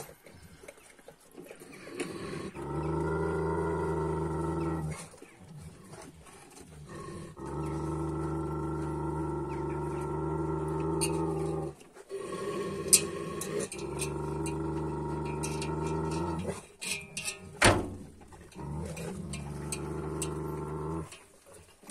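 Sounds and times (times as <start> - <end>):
dog growling deeply: 1.7 - 16.8, 18.1 - 21.3.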